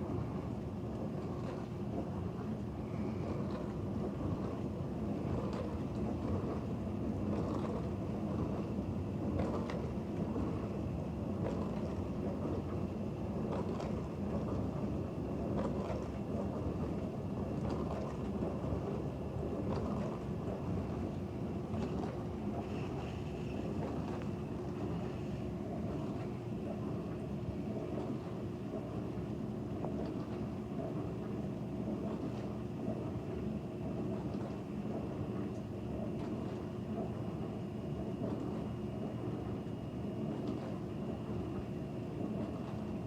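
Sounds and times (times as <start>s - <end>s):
dishwasher pump rushing water: 0.0s - 43.0s
faint water splashes: 0.0s - 43.0s.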